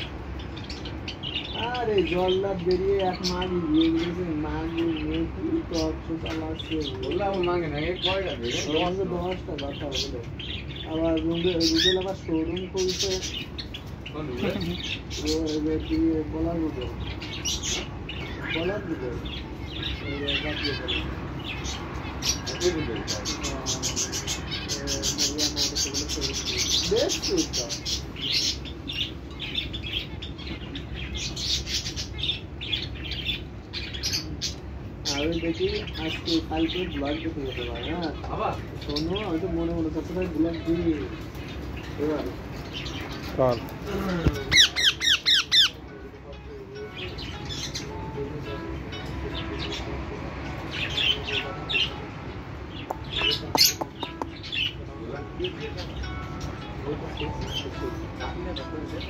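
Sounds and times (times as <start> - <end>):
parakeet chirping: 0.0 - 59.0.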